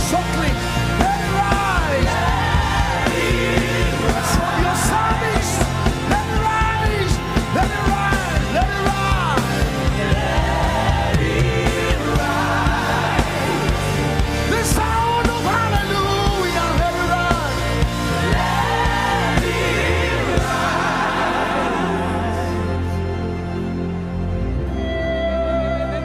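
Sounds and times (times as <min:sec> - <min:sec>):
band with heavy bass: 0:00.0 - 0:26.0.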